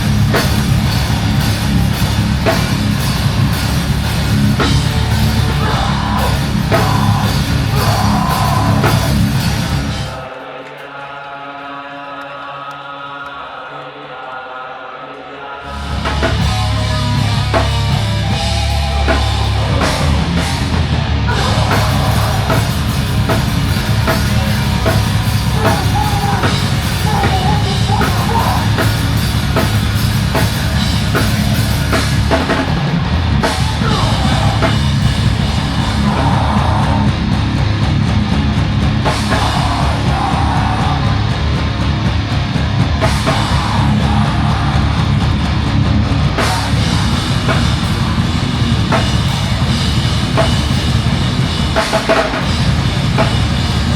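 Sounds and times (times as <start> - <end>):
heavy rock music with drums: 0.0 - 10.4, 15.6 - 53.9.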